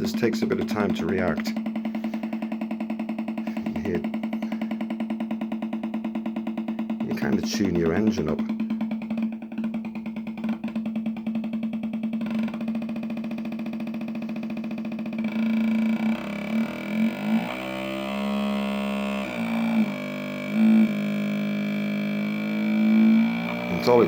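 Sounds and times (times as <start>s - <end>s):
buzzing electronic engine note: 0.0s - 24.0s.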